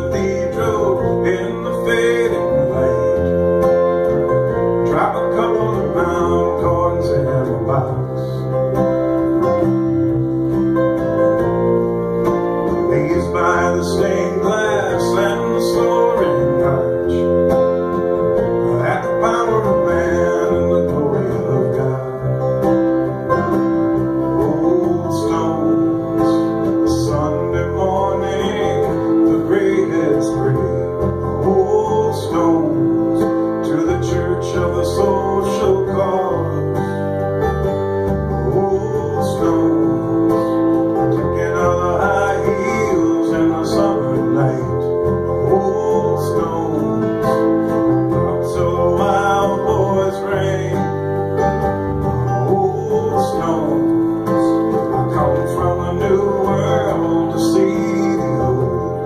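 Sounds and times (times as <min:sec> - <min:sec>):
man singing: 0:00.0 - 0:08.6, 0:12.6 - 0:59.0
acoustic guitar strumming: 0:00.0 - 0:59.0.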